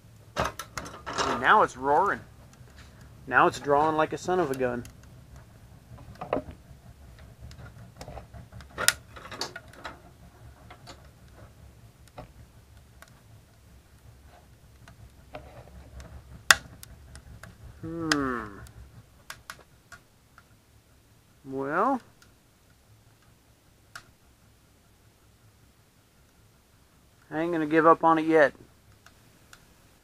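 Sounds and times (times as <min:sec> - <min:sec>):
low steady rumble: 0:00.0 - 0:30.0
wood fire crackling: 0:00.0 - 0:30.0.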